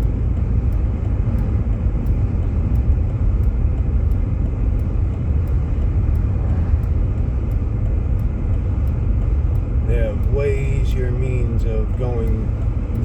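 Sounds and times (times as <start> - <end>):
car engine: 0.0 - 13.0
tyre and road noise: 0.0 - 13.0.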